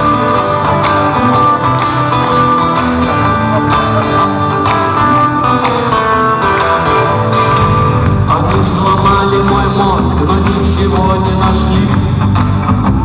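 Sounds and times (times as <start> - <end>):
electric guitar: 0.0 - 13.0
live rock band playing: 0.0 - 13.0.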